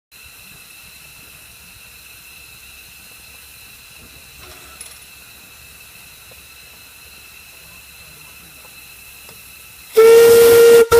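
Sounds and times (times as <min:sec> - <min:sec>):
steam hissing: 0:00.1 - 0:10.9.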